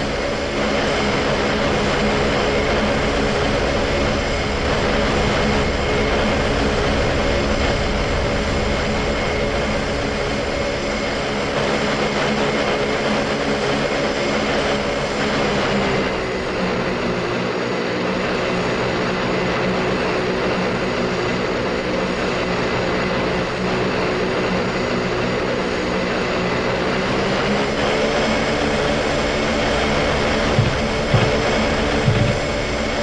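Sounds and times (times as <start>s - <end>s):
airplane engines droning: 0.0s - 33.0s.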